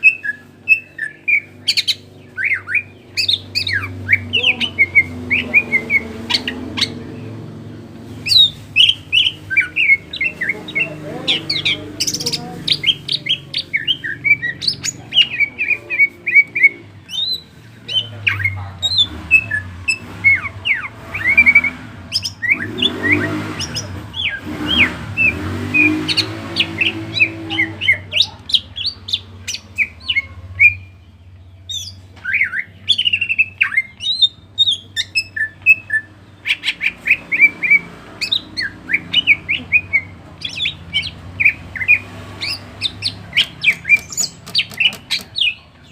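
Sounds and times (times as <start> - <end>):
bird singing chirps and whistles: 0.0 - 7.3, 8.2 - 31.0, 31.6 - 45.9.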